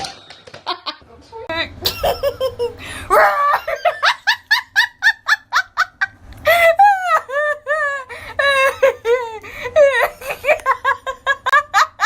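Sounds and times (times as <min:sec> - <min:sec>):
high-pitched laughter: 0:01.8 - 0:12.0.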